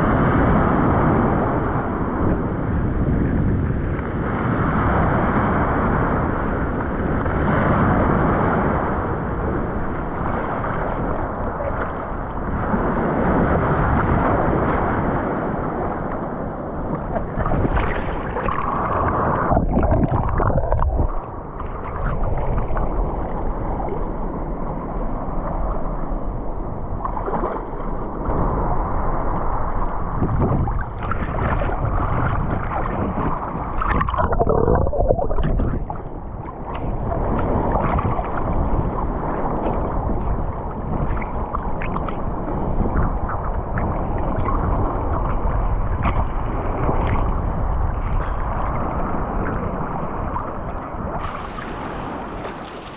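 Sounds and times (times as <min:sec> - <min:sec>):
sea water sloshing and gurgling: 0:00.0 - 0:52.9.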